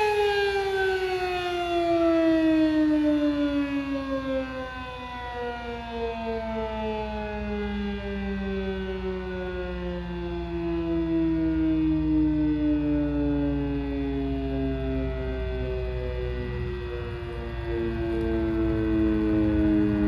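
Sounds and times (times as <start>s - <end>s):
fire siren winding down: 0.0s - 20.0s.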